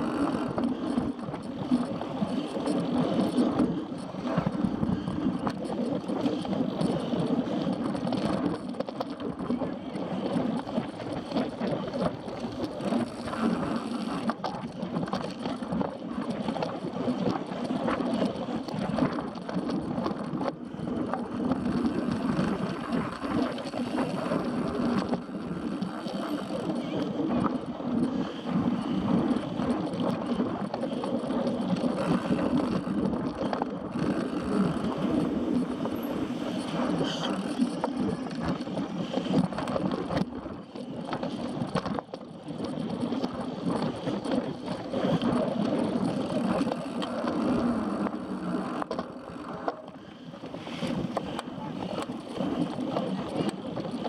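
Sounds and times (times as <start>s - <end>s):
bike rattling over bumps: 0.0s - 54.0s
bike tyres rumbling on dirt: 0.0s - 54.0s
wind buffeting microphone: 0.0s - 54.0s.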